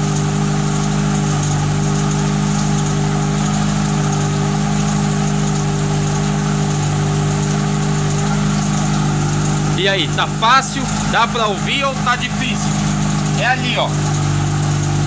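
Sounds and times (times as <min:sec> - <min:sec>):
car engine idling loud exhaust: 0:00.0 - 0:15.0.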